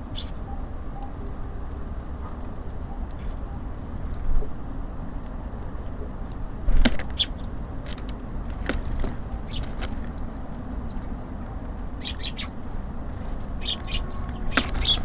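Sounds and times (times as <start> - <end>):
small birds chirping: 0.0 - 1.8, 2.4 - 4.4, 5.7 - 15.0
distant traffic rumble: 0.0 - 15.0.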